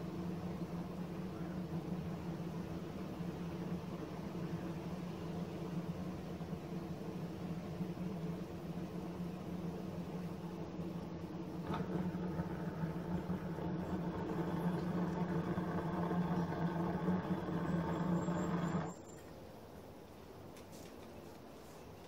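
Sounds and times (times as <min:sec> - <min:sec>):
propane burner roaring: 0:00.0 - 0:19.1.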